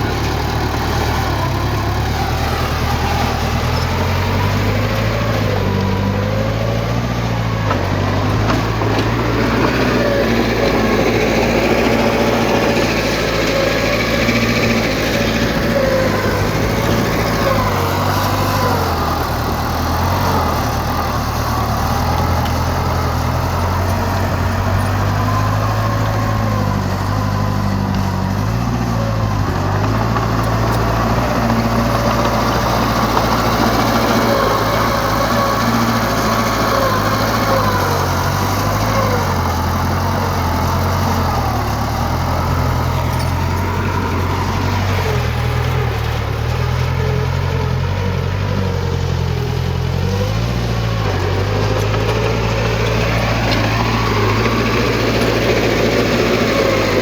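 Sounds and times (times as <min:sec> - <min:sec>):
earthmoving machine diesel engine: 0:00.0 - 0:57.0.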